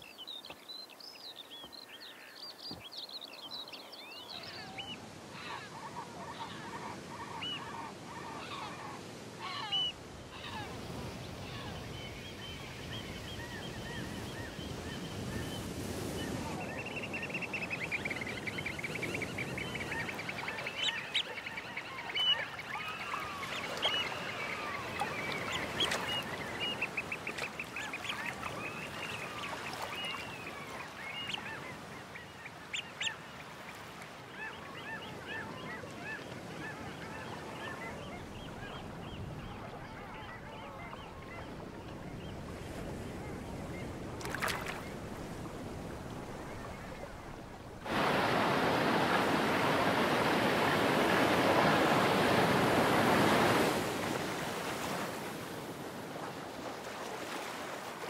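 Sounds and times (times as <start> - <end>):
ducks and waterbirds calling: 0.0 - 58.0
sea wash: 3.6 - 58.0
waves breaking on shore: 4.3 - 58.0.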